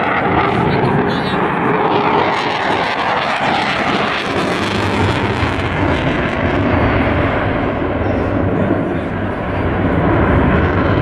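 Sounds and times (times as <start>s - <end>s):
loud jet engine roar: 0.0s - 11.0s.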